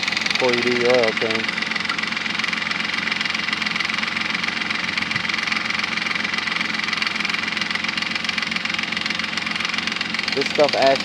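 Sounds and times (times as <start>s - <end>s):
car engine idling: 0.0s - 11.0s
engine lifter ticking: 0.0s - 11.0s.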